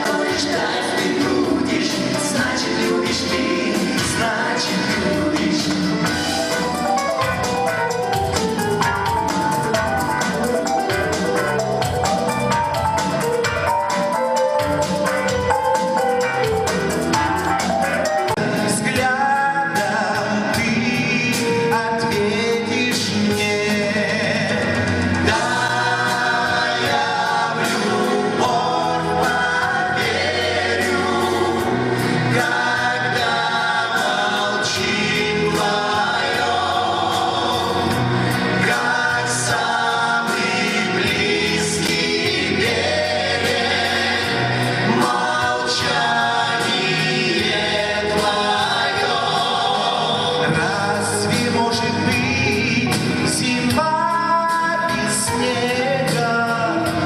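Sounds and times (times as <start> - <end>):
drum beat: 0.0 - 19.1, 24.3 - 50.8
group singing: 0.0 - 57.0
pop band playing: 0.0 - 57.0.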